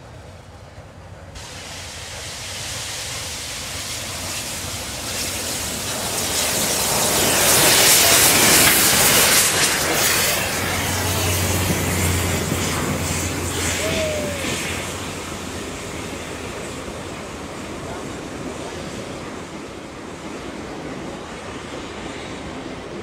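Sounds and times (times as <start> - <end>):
passenger cars rolling on rails: 0.0 - 23.0
steam locomotive passing: 0.0 - 23.0.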